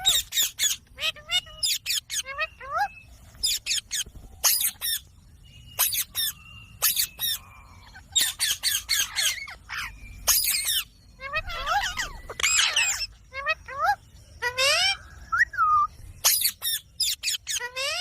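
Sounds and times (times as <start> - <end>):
parakeet screeching: 0.0 - 5.1, 5.8 - 15.0, 16.2 - 18.0.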